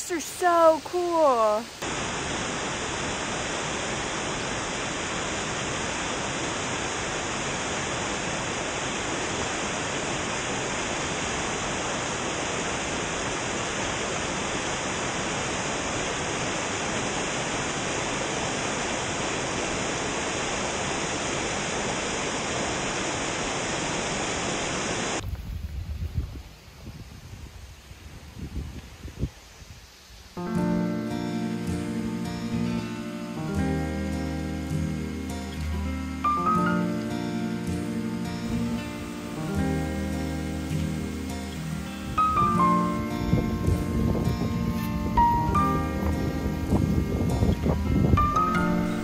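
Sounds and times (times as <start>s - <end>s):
waterfall rushing: 0.0s - 25.2s, 30.4s - 49.0s.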